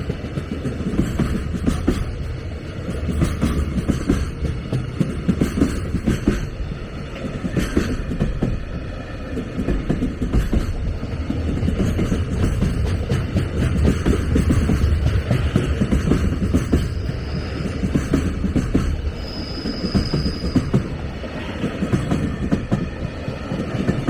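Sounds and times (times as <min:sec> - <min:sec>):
train rumbling past: 0:00.0 - 0:24.0
wheels clacking on rails: 0:00.0 - 0:24.0.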